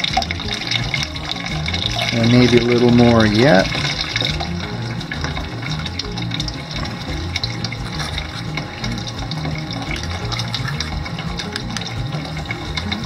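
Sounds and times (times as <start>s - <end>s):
low hum: 0.0s - 13.0s
water splashing into bucket: 0.0s - 13.0s.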